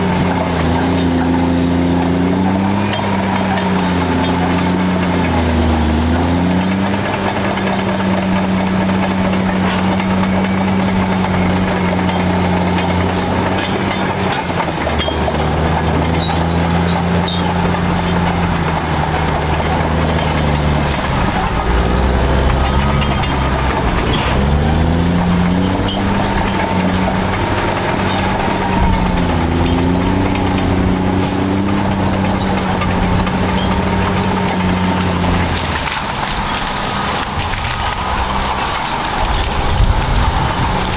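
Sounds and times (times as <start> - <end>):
bulldozer diesel engines under load: 0.0 - 40.9.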